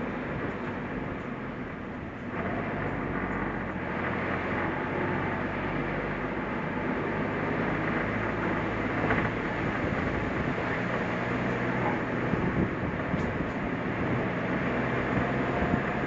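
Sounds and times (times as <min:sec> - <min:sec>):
car engine hum: 0:00.0 - 0:16.0
tyre and road rumble: 0:00.0 - 0:16.0.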